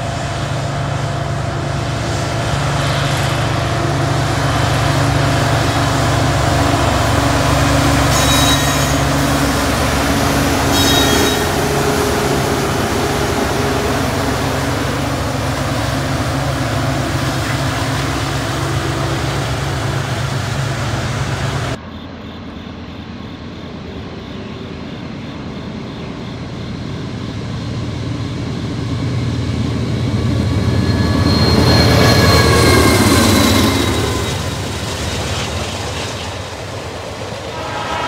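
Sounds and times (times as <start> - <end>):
diesel locomotive engine hum: 0.0 - 38.0
freight train rumbling: 0.0 - 38.0
locomotive whine: 0.0 - 38.0.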